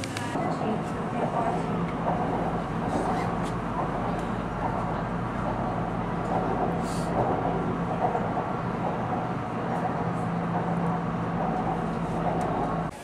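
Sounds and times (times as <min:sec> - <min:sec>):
train carriage running rumble: 0:00.0 - 0:13.0.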